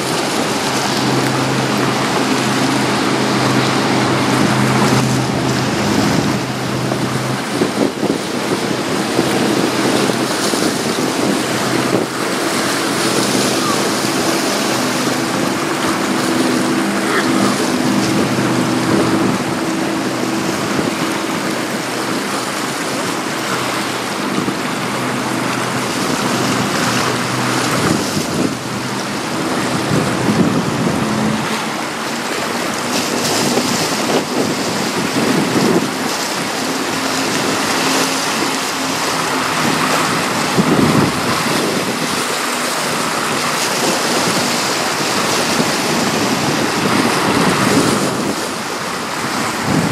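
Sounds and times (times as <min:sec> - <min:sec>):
choppy water lapping: 0:00.0 - 0:49.9
ship engine hum: 0:00.0 - 0:49.9
wind on microphone: 0:00.0 - 0:49.9.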